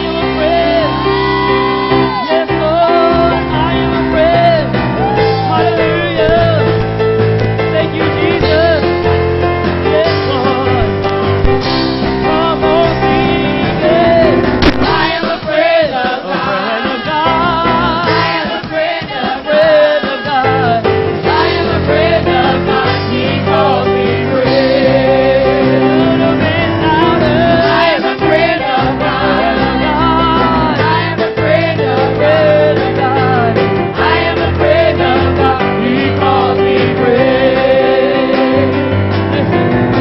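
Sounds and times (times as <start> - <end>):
bass: 0.0 - 15.4, 17.1 - 18.5, 20.4 - 40.0
gospel group singing: 0.0 - 40.0.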